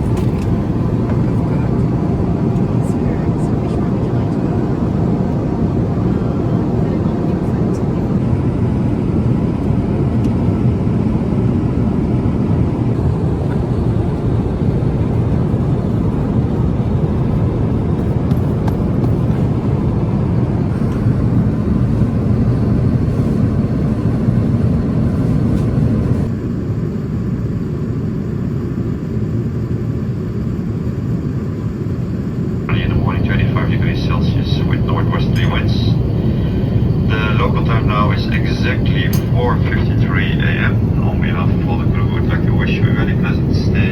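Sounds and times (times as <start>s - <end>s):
airliner cabin rumble: 0.0s - 27.0s, 27.6s - 43.9s.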